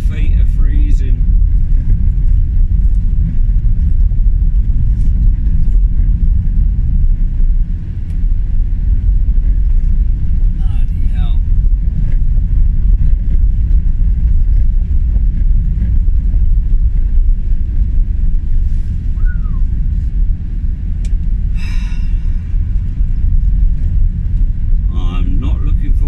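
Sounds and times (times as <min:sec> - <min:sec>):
engine and tyres rumbling: 0:00.0 - 0:26.0.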